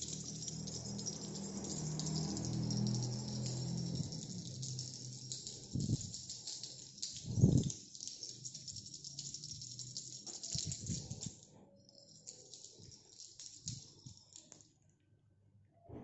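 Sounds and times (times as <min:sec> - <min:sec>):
jingle bell jingling: 0:00.0 - 0:14.6.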